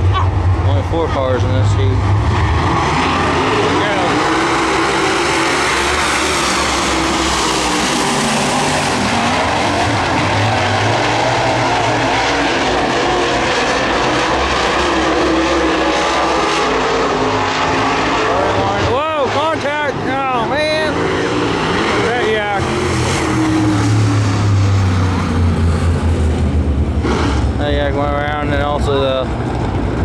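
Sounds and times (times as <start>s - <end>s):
race car engines passing: 0.0s - 30.0s.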